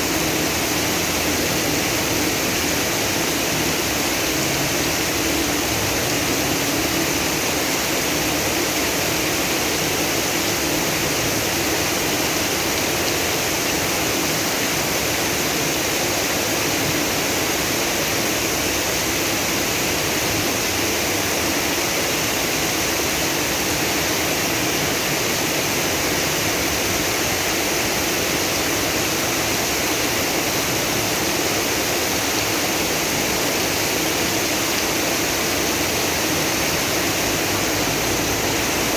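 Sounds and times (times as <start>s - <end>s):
floodwater running through street: 0.0s - 38.9s
heavy rain: 0.0s - 38.9s.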